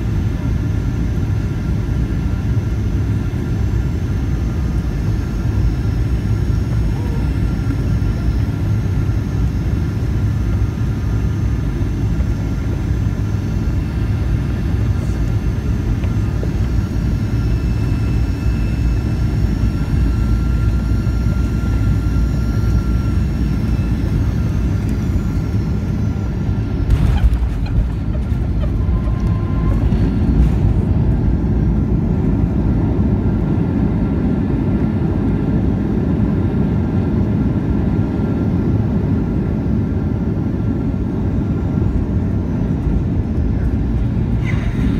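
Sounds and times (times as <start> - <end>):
aircraft engine and airflow rumble: 0.0 - 44.9
faint jet engine whine: 0.0 - 44.9.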